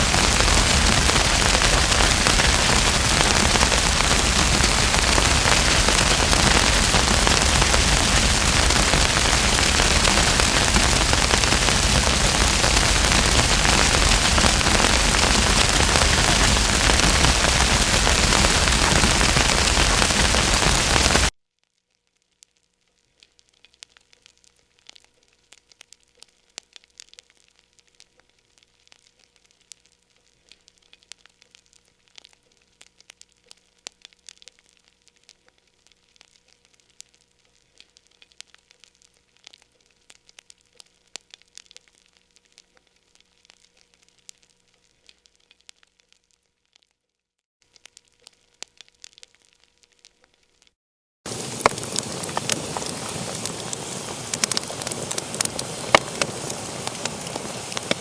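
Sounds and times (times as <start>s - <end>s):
wood fire crackling: 0.0s - 21.3s, 23.2s - 46.3s, 47.7s - 50.3s, 51.3s - 58.0s.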